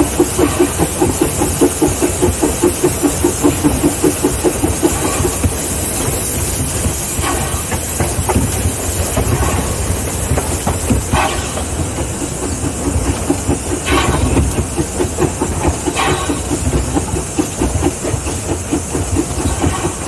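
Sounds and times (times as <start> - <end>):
steam hissing: 0.0 - 20.0
steam locomotive exhaust chuffs: 0.0 - 20.0
wheels clacking on rails: 0.0 - 20.0.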